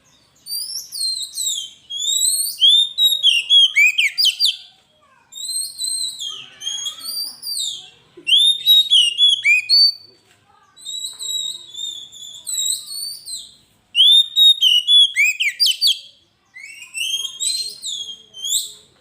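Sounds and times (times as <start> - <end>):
songbird whistling song: 0.0 - 19.0.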